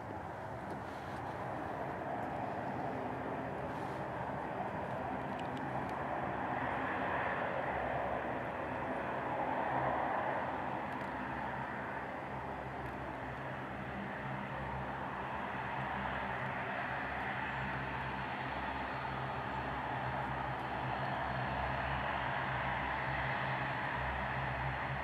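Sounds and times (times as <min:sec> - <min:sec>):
turboprop engine and propeller drone: 0:00.0 - 0:25.0.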